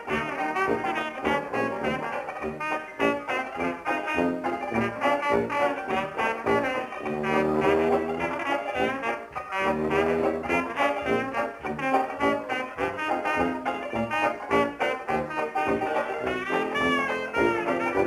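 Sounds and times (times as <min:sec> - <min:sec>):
jazzy brass music: 0:00.0 - 0:18.0.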